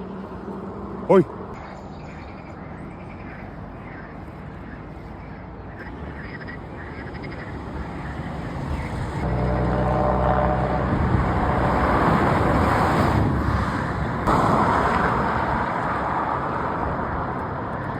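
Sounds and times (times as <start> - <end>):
vehicle engine approaching: 0.0 - 17.9.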